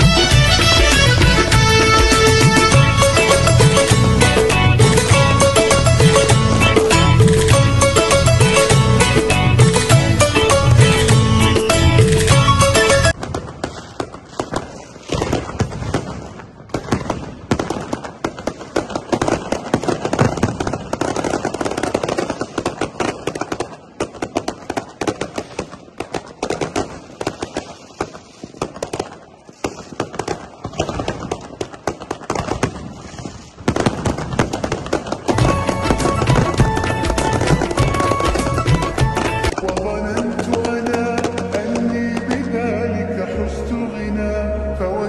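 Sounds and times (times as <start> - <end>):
firecrackers crackling and popping: 0.0 - 11.3, 12.1 - 42.5
fireworks bangs: 0.0 - 42.9.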